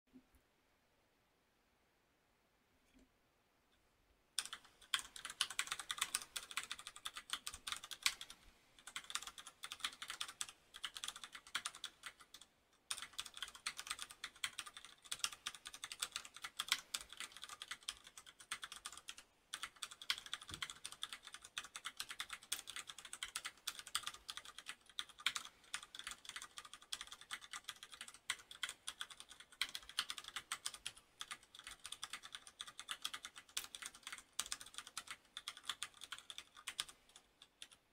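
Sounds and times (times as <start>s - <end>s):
mechanical keyboard typing: 4.4s - 37.8s.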